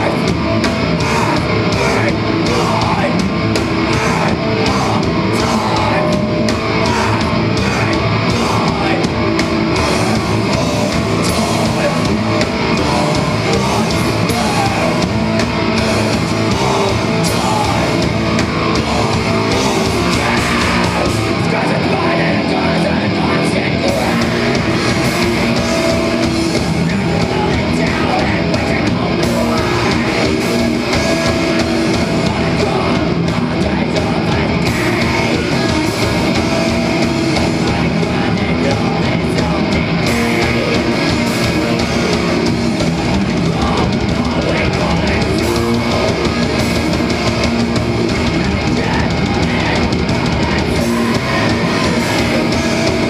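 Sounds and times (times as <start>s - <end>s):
distorted electric guitar: 0.0s - 53.0s
drum kit: 0.0s - 53.0s
vocalist singing: 0.0s - 53.0s.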